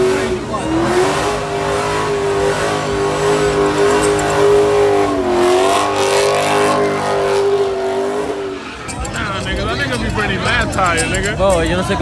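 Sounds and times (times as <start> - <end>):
car engine revving high: 0.0 - 10.1.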